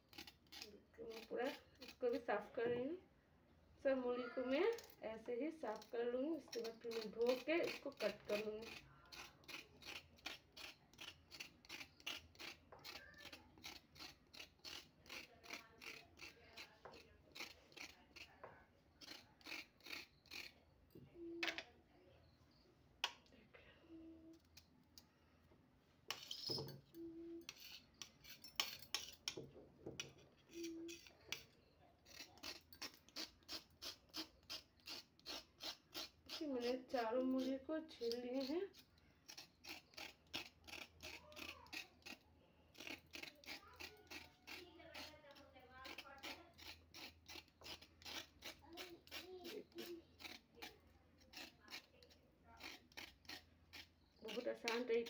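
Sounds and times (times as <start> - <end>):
knife scraping radish skin: 0.0 - 2.5, 4.4 - 18.4, 19.0 - 20.6, 26.1 - 29.4, 30.0 - 55.0.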